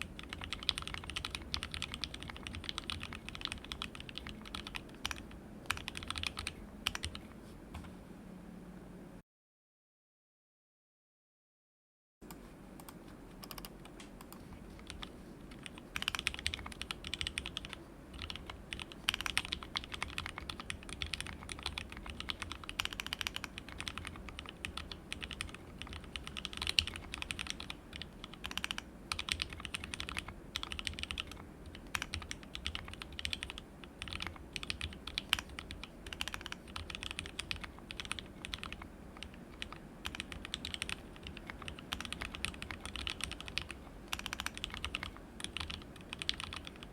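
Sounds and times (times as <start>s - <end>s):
fast typing on mechanical keyboard: 0.0s - 7.2s, 13.4s - 46.9s.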